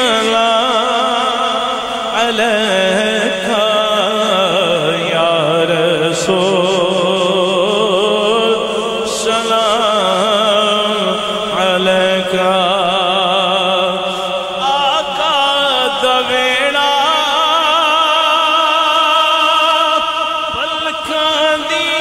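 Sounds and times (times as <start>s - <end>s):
man singing with vibrato: 0.0s - 22.0s.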